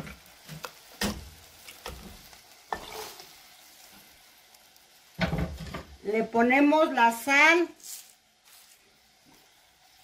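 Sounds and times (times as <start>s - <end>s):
salsa sizzling in hot oil: 0.0s - 10.0s.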